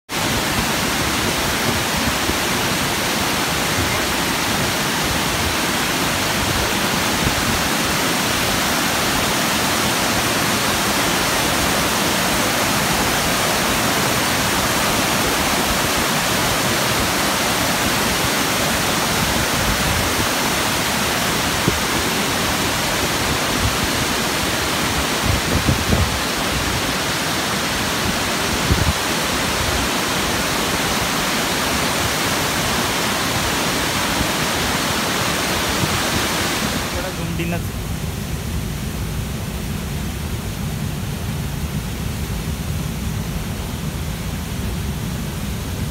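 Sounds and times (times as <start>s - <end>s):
waterfall rushing and splashing: 0.1s - 45.9s.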